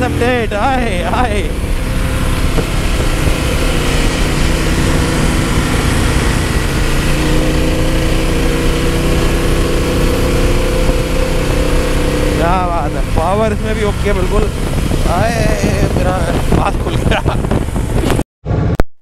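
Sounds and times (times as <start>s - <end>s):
motorcycle engine running: 0.0s - 18.8s
wind noise: 0.0s - 18.8s.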